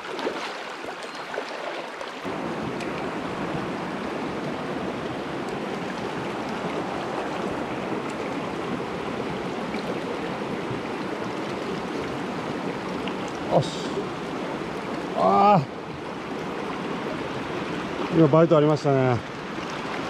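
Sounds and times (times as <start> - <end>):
stream flowing over rocks: 0.0 - 20.0.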